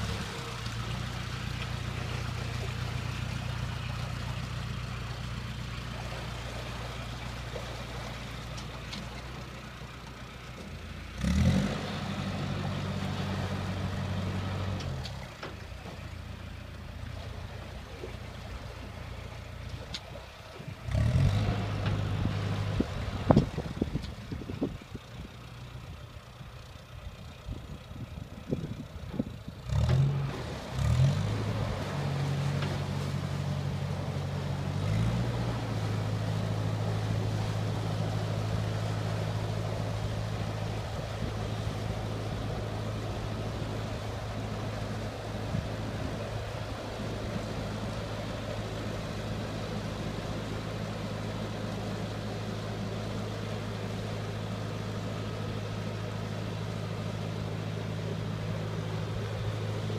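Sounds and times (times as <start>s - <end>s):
boat engine running and revving: 0.0s - 59.9s.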